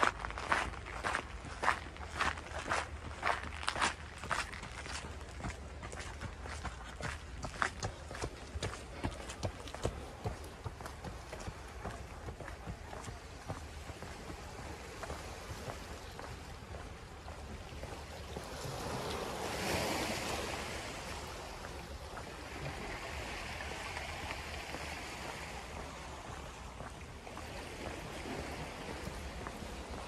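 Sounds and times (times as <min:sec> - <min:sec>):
waves washing against shingle: 0:00.0 - 0:30.0.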